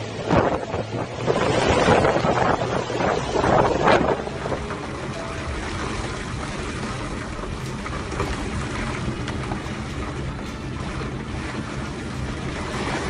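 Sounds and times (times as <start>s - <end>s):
churning water: 0.0s - 13.0s
roaring wind: 0.0s - 13.0s
wind buffeting microphone: 0.0s - 13.0s.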